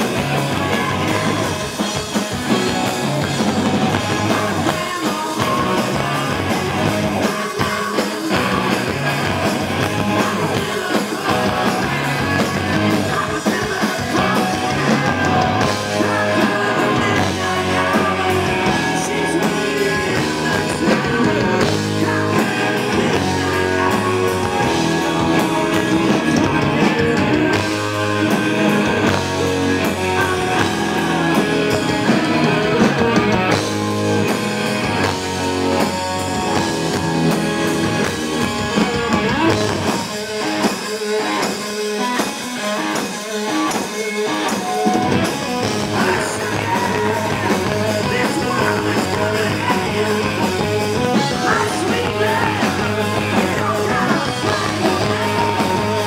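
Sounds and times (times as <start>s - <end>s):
person singing: 0.0s - 33.6s, 34.8s - 56.0s
distorted electric guitar: 0.0s - 56.0s
drum kit: 0.0s - 56.0s
live rock band playing: 0.0s - 56.0s.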